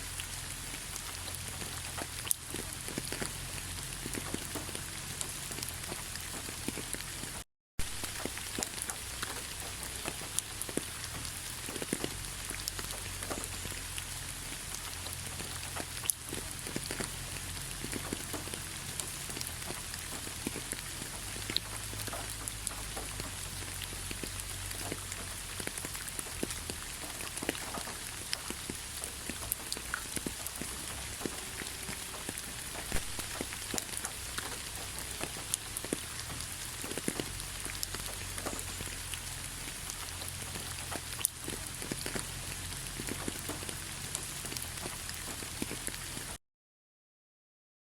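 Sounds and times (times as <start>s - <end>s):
rain drops ticking on a surface: 0.0s - 46.4s.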